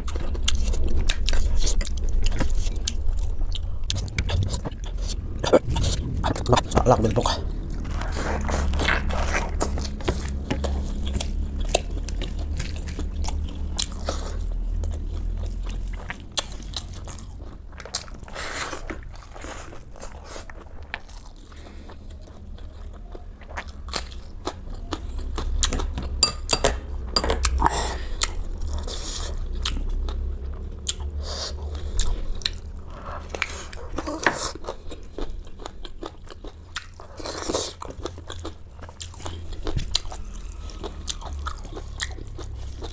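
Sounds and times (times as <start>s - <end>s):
chewing and crunching food: 0.0s - 42.9s
low rumble: 0.0s - 42.9s.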